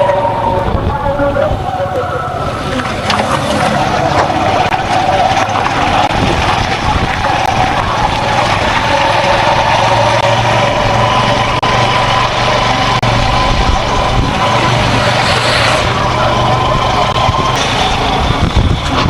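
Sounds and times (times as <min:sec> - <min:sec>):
motor whining and humming: 0:00.0 - 0:19.0.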